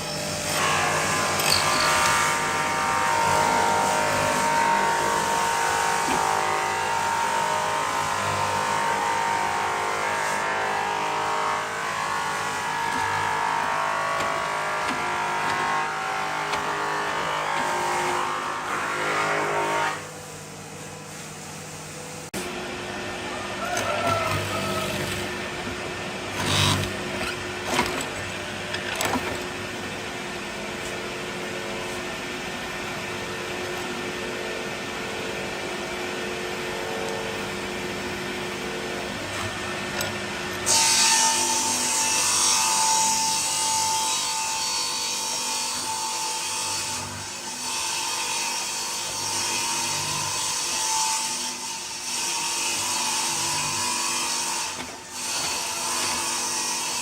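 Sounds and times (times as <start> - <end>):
woodworking machine running: 0.0 - 20.0, 22.4 - 36.2, 36.8 - 57.0.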